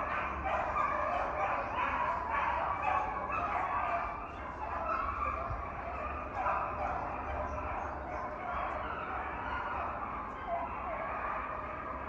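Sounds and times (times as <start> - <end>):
pack of hounds baying: 0.0 - 12.0.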